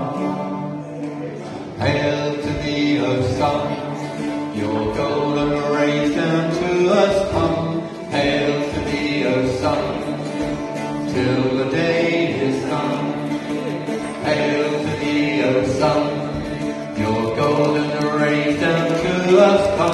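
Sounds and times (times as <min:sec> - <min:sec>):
banjo: 0:00.0 - 0:19.9.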